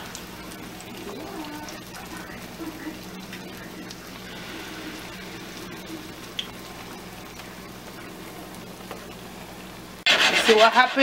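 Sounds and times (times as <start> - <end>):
fritters sizzling in hot oil: 0.0 - 10.1
steady low hum: 0.0 - 10.1.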